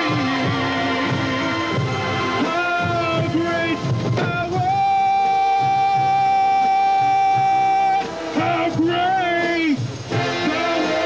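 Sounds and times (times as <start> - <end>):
marching band playing: 0.0 - 11.0.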